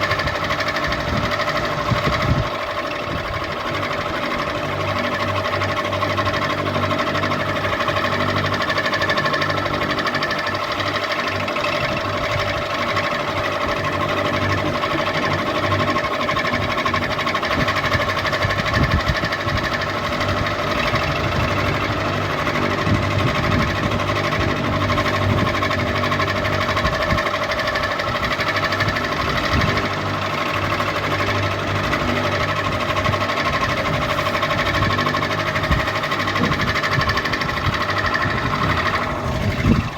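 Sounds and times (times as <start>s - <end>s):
ceiling fan humming: 0.0s - 39.9s.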